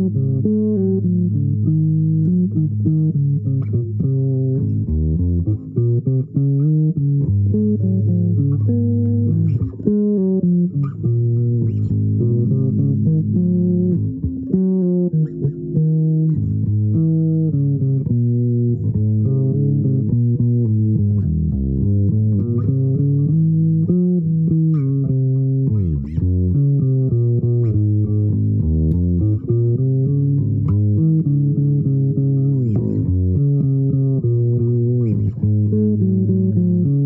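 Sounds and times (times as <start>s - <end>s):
plucked string instrument melody: 0.0s - 37.0s.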